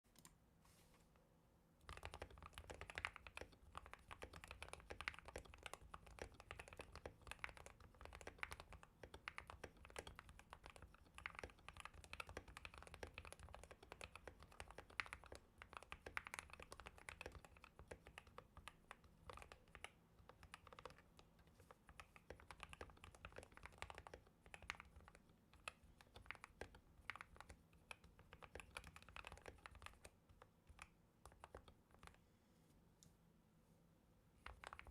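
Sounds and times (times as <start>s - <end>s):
fast typing on mechanical keyboard: 1.8s - 32.2s, 34.4s - 34.9s.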